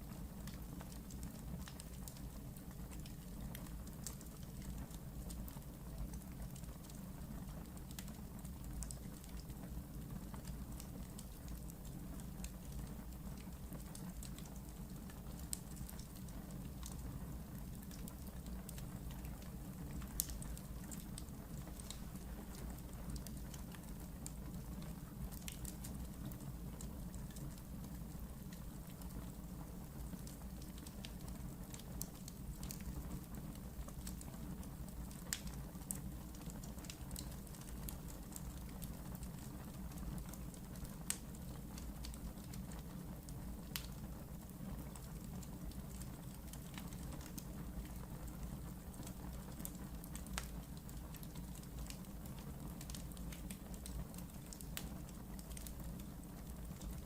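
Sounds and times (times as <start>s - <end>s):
wood fire burning: 0.0s - 57.0s.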